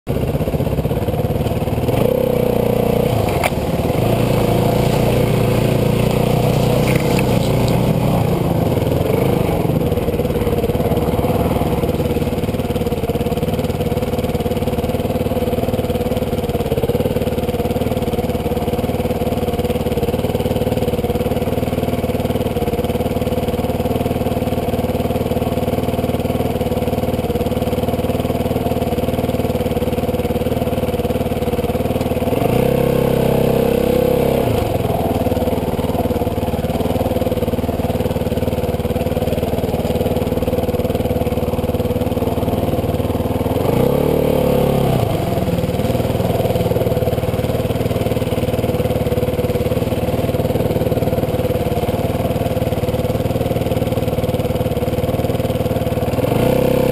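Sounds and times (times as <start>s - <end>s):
dirt bike engine running: 0.1s - 56.9s.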